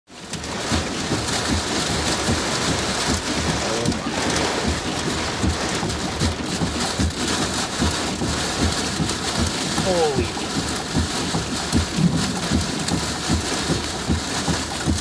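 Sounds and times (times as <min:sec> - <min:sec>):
rain pelting a vehicle: 0:00.1 - 0:15.0
wind thumping the vehicle: 0:00.1 - 0:15.0.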